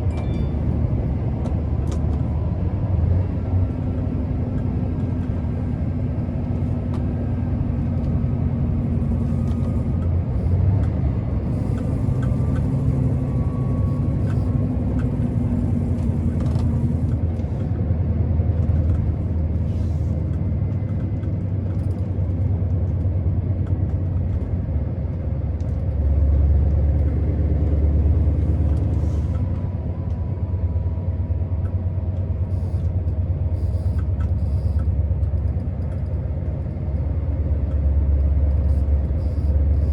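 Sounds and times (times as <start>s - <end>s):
diesel truck engine rumble: 0.0s - 39.9s.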